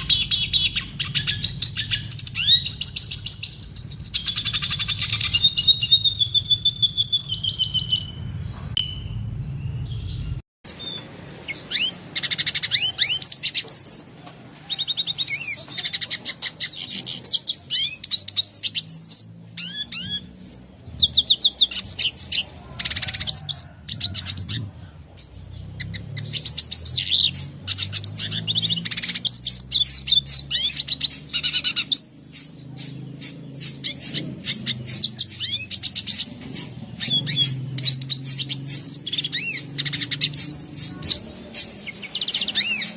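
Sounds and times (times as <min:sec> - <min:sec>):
bird singing high twittering trills: 0:00.0 - 0:14.1, 0:14.7 - 0:42.9.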